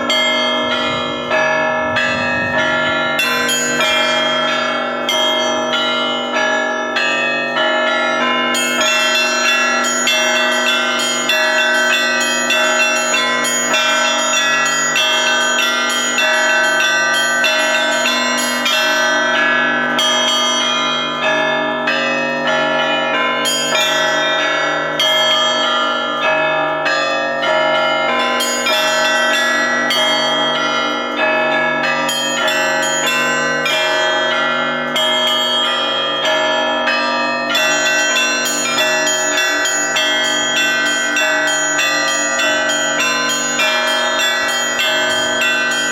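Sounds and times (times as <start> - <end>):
large bells ringing: 0.0 - 45.9
small church bells struck quickly: 0.0 - 45.9.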